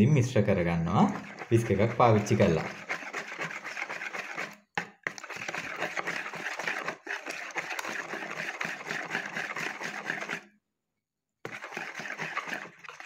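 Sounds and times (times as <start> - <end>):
wire whisk beating in a bowl: 1.0 - 10.4, 11.5 - 13.0.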